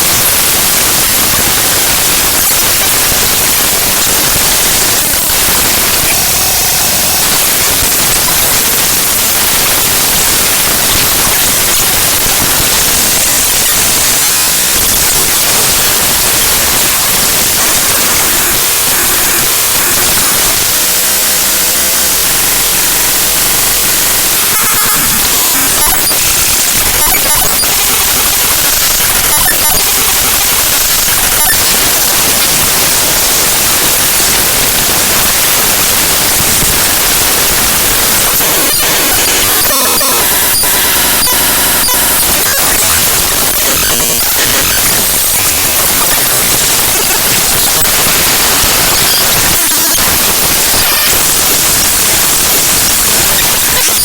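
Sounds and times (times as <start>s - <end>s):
loud dense static noise: 0.0s - 54.0s.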